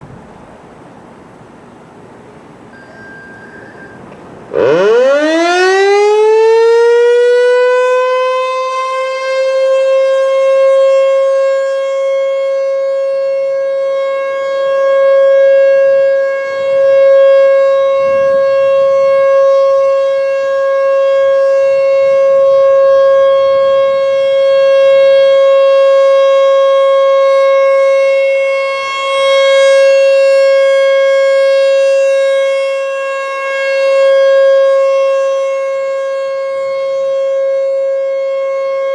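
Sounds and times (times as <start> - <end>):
warning siren winding up: 2.8 - 38.9.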